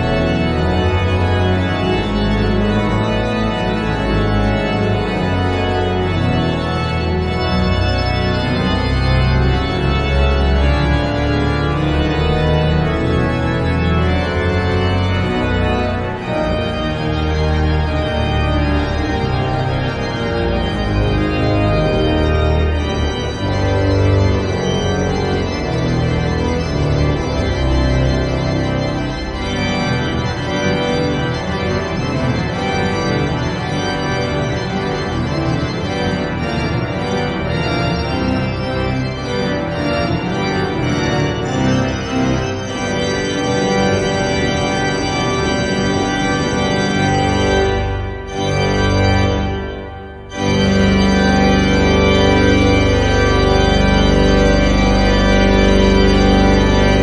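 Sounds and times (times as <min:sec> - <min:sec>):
organ playing: 0:00.0 - 0:57.0.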